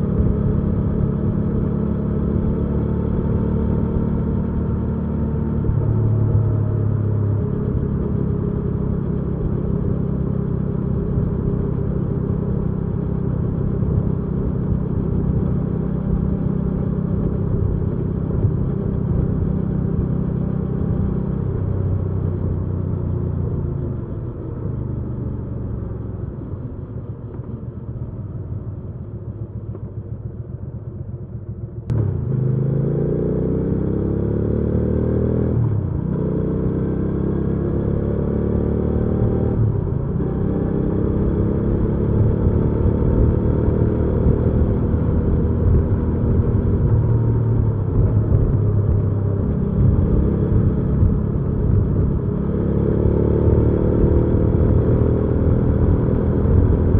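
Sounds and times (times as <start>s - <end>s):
motorcycle engine while riding: 0.0s - 56.9s.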